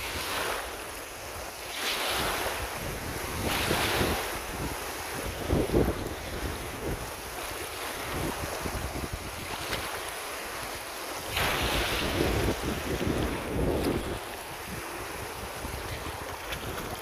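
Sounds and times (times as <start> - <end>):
wind buffeting microphone: 2.1 - 17.0.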